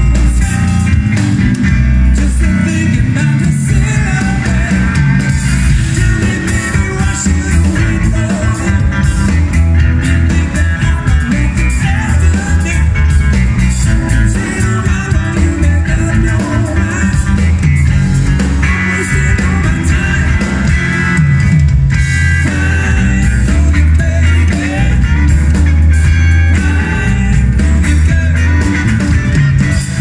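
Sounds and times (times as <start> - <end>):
live band playing instrumental: 0.0 - 30.0.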